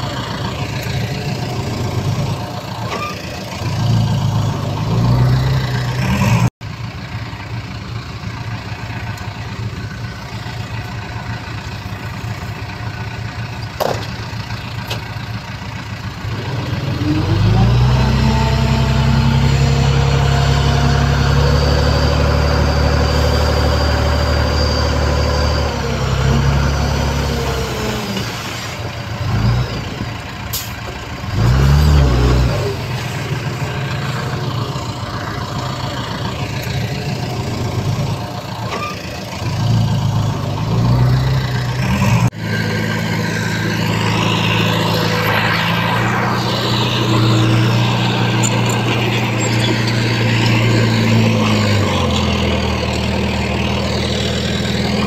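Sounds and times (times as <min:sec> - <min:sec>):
heavy diesel engine revving: 0:00.0 - 0:06.6, 0:07.5 - 0:55.0.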